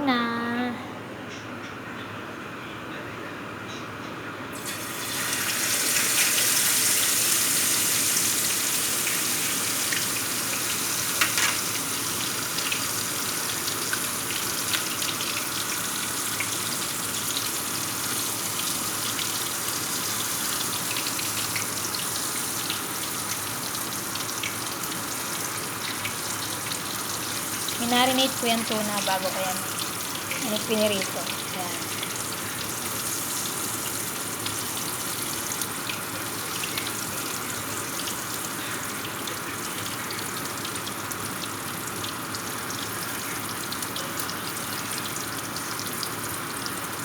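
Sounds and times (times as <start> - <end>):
fish sizzling in hot oil: 4.6 - 47.0.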